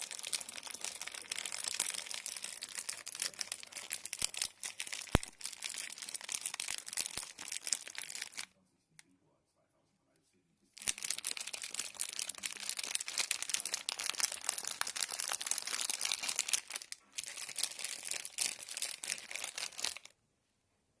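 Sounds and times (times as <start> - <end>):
plastic bag crinkling: 0.0 - 8.5, 10.8 - 20.1.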